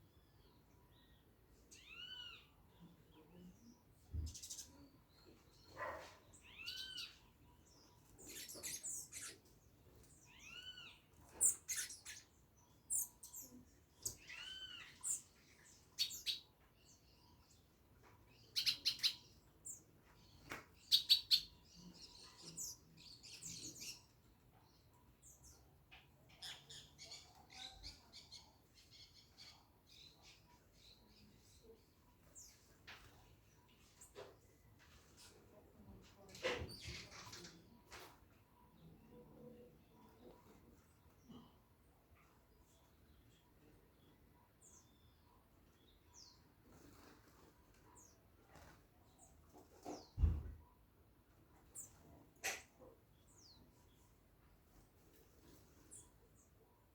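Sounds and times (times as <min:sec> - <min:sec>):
birds chirping: 0:00.0 - 0:50.5.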